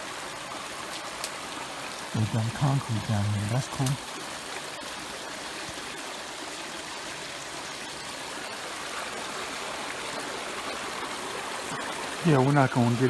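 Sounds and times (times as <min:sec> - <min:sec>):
fast river flowing: 0:00.0 - 0:13.0.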